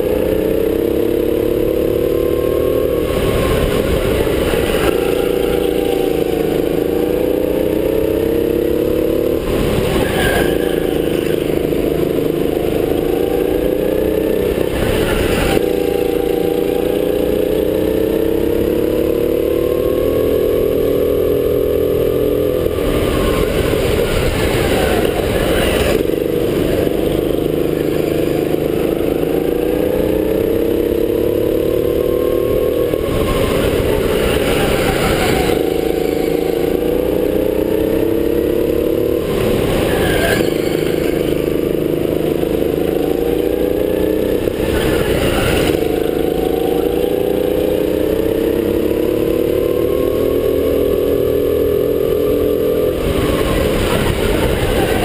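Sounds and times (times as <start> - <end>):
go-kart motor: 0.0 - 55.0.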